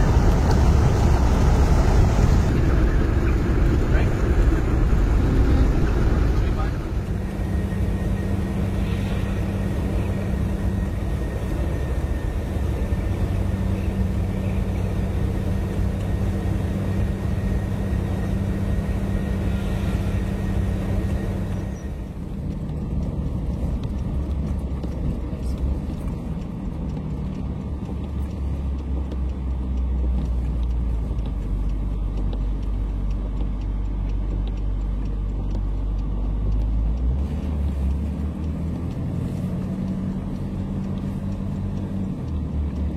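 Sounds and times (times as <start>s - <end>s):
road noise: 0.0s - 42.9s
vehicle engine drone: 0.0s - 42.9s.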